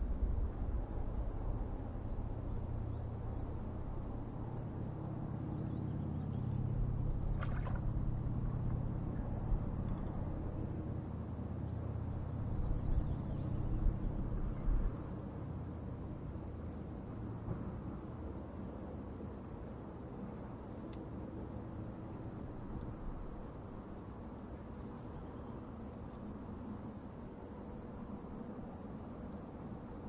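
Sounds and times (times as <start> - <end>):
engine rumble with hum: 0.0 - 30.0.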